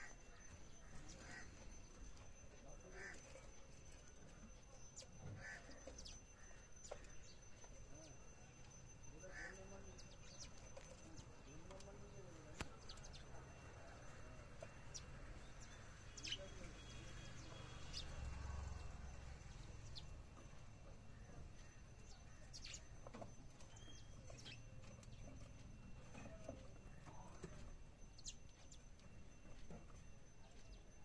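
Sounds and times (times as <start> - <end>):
sparrows chirping faintly: 0.0 - 31.0.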